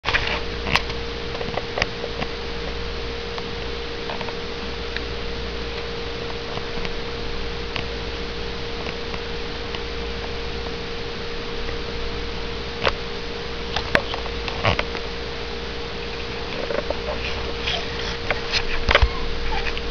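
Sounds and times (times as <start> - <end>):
steady hum with mid-pitched tone: 0.0 - 19.9.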